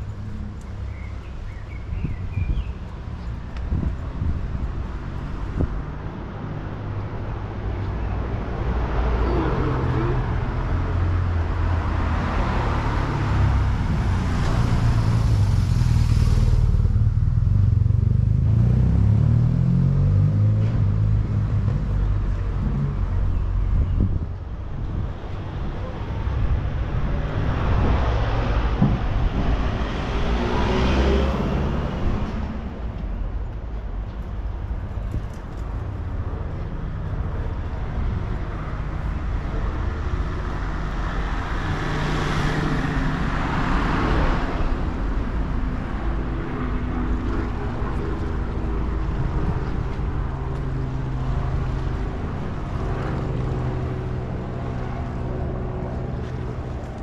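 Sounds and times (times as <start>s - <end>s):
vehicle engine rumbling: 0.0s - 57.0s
vehicles passing: 0.0s - 57.0s.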